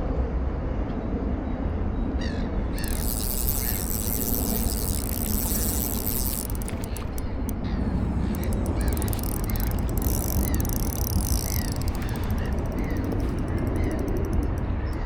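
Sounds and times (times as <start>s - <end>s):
bird calling: 2.2s - 15.0s.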